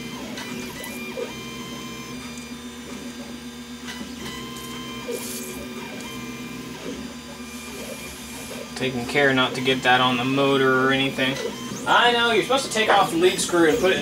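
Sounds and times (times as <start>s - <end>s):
printer fans and motors humming: 0.0s - 14.0s.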